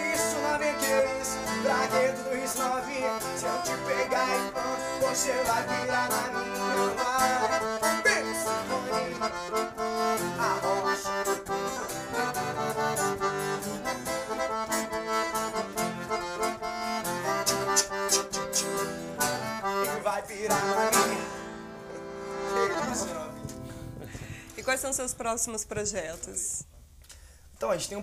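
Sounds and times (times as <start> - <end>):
strummed acoustic guitar: 0.0 - 24.6
accordion playing: 0.0 - 25.1.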